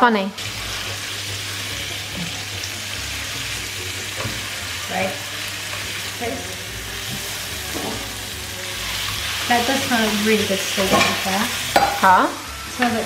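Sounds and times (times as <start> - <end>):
steaks sizzling in a frying pan: 0.4 - 13.0.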